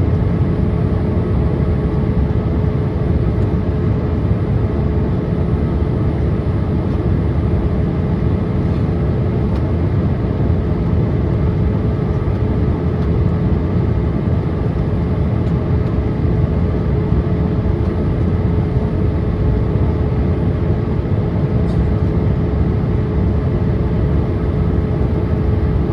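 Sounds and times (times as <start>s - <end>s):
aircraft engine and airflow roar: 0.0s - 25.9s
constant hum: 0.0s - 25.9s.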